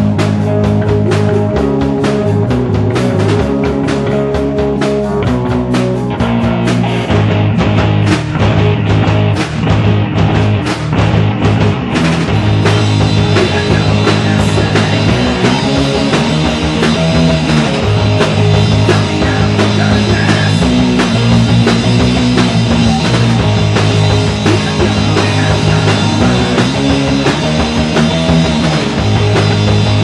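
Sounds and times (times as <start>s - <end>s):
heavy rock band playing: 0.0s - 30.0s.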